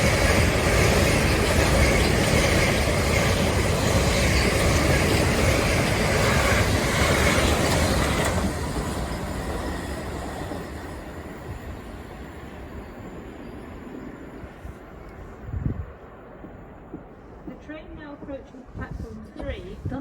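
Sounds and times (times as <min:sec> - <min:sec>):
train wheels running on rails: 0:00.0 - 0:20.0.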